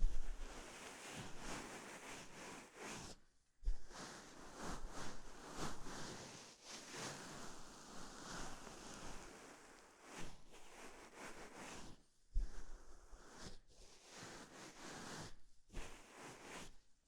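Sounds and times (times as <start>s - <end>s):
fabric brushing on microphone: 0.0s - 16.8s.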